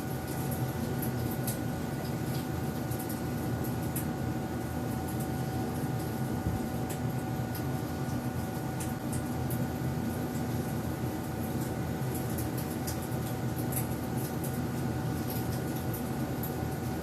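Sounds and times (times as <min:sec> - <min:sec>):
low mechanical hum: 0:00.0 - 0:17.0
thin constant whine: 0:00.0 - 0:17.0.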